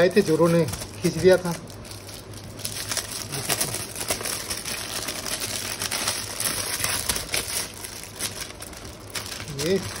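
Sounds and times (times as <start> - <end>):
plastic and paper crinkling: 0.0 - 10.0.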